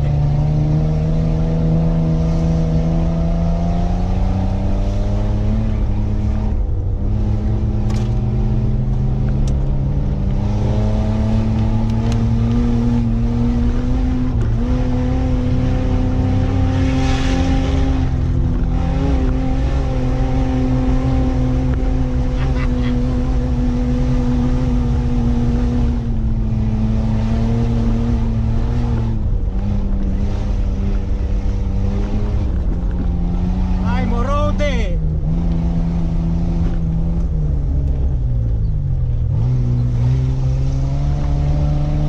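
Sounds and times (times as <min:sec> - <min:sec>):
car engine running from inside: 0:00.0 - 0:42.0.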